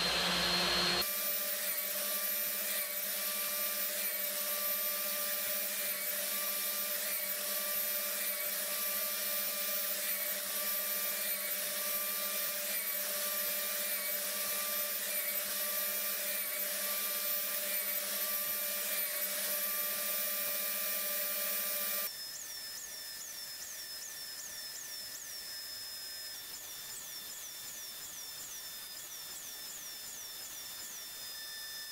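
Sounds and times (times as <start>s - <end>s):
miter saw motor whining: 0.0s - 31.9s.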